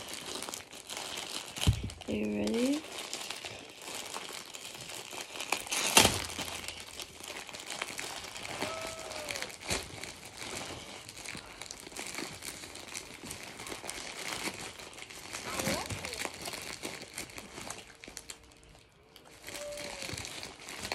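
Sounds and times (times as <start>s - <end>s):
plastic bag crinkling: 0.0s - 20.9s.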